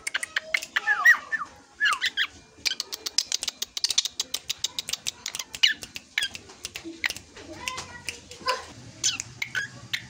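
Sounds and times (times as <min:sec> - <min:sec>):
bird clicks and whistles: 0:00.0 - 0:08.3, 0:09.0 - 0:10.0.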